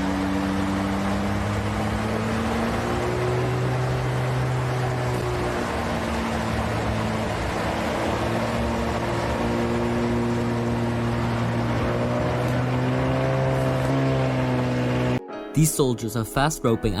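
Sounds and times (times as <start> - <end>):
aircraft engine droning: 0.0 - 15.2.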